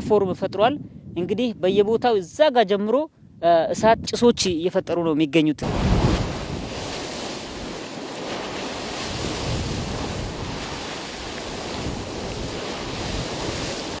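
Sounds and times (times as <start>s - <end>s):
wind buffeting microphone: 0.0s - 2.4s, 3.2s - 4.8s, 5.6s - 14.0s.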